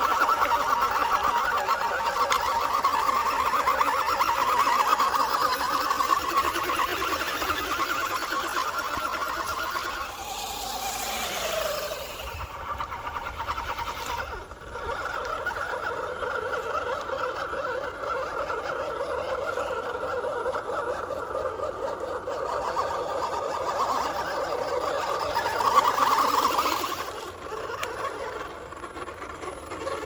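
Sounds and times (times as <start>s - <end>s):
drivetrain rattling chatter: 0.0s - 30.0s
toy truck electric motor whine: 0.0s - 30.0s.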